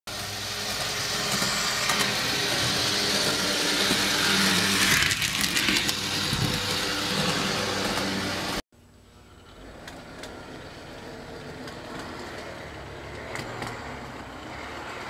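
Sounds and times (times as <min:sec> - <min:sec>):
toy track car motor whirring: 0:00.1 - 0:08.6, 0:09.7 - 0:15.0.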